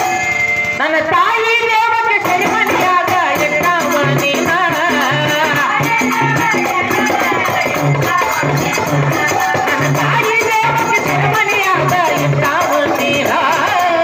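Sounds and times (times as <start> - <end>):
jingling rhythm: 0.0 - 14.0
low drum beats: 2.2 - 13.8.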